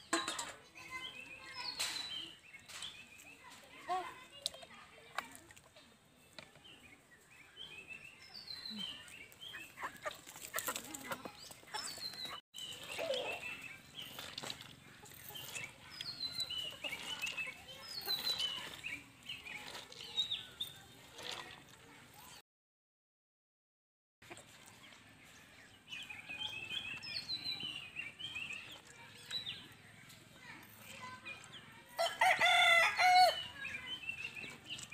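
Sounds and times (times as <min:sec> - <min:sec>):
birds chirping: 0:00.0 - 0:04.4, 0:05.8 - 0:21.4, 0:24.3 - 0:34.9.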